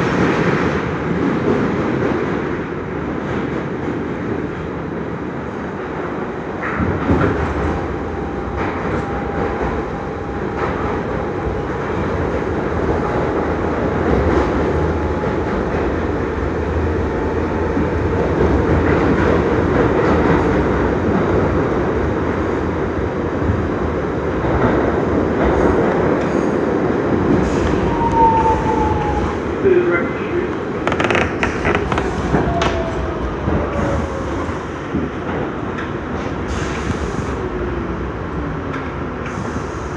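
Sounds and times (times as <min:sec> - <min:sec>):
subway wheels rumbling on rail: 0:00.0 - 0:39.9.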